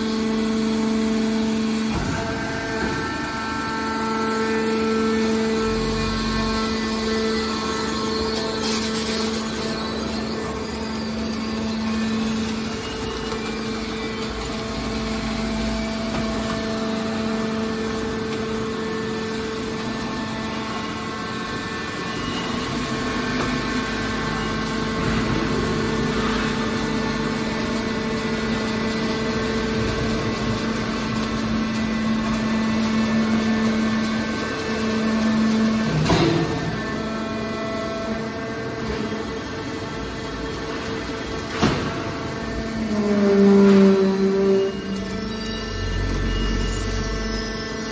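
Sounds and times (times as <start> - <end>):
machine hum: 0.0 - 47.9.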